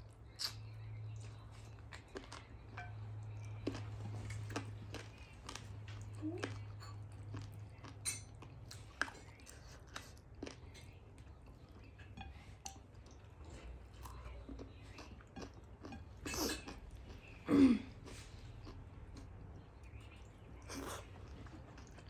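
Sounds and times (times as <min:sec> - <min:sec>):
wet chewing and mouth clicks: 0:00.1 - 0:17.4, 0:18.0 - 0:22.0.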